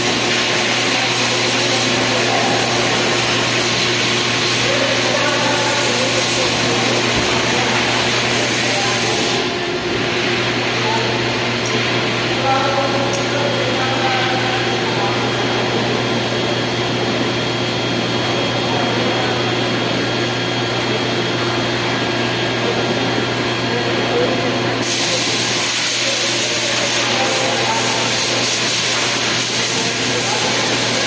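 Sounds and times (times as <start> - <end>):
air conditioner humming and whirring: 0.0 - 31.0.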